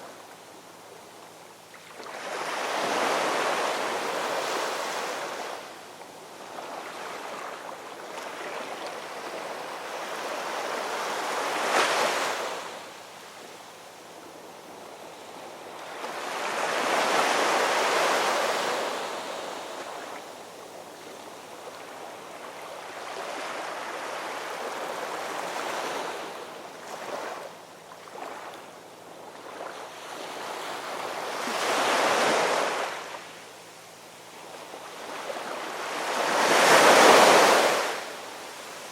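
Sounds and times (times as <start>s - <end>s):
ocean waves breaking on shore: 1.8s - 5.8s, 6.4s - 13.0s, 14.4s - 33.3s, 34.4s - 38.9s.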